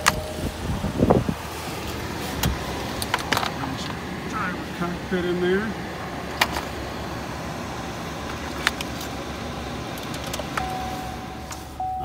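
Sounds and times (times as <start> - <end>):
steady running noise: 0.0 - 11.8.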